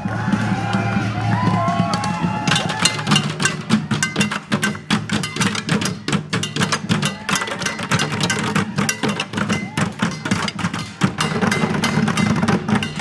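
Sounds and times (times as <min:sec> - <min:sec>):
drum and stick hits: 0:00.0 - 0:13.0.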